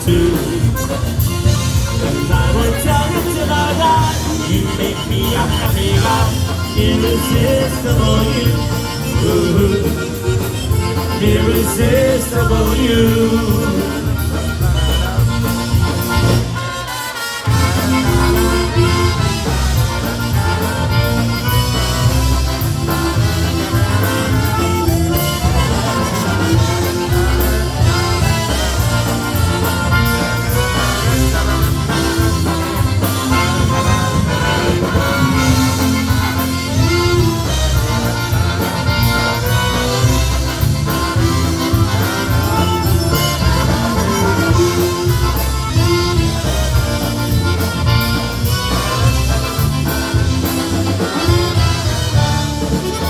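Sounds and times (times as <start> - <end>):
polka band playing: 0.0 - 53.0.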